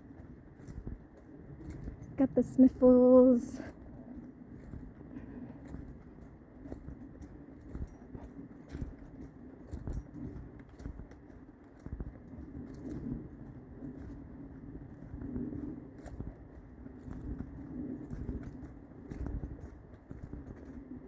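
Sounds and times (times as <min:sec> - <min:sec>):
footsteps walking briskly: 0:00.0 - 0:21.0.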